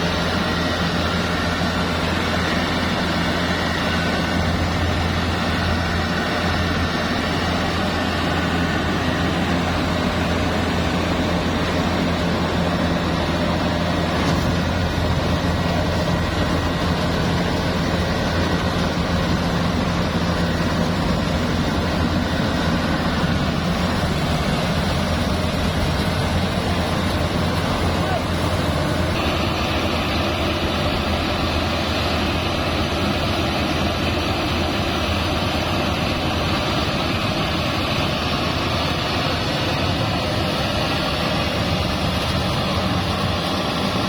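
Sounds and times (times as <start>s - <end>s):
harvester engine drone: 0.0s - 44.0s.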